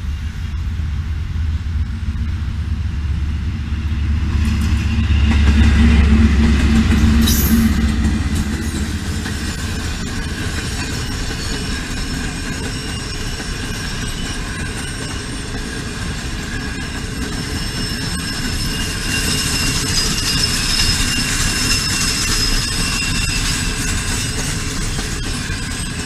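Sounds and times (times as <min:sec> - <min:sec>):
train wheels rumbling on rails: 0:00.0 - 0:26.0
thin high ringing tones: 0:03.0 - 0:26.0.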